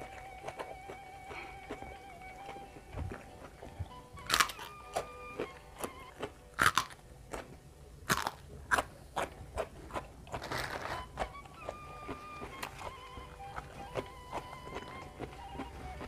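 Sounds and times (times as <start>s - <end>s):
chewing: 0.0s - 16.0s
crunching raw vegetables: 0.0s - 16.0s.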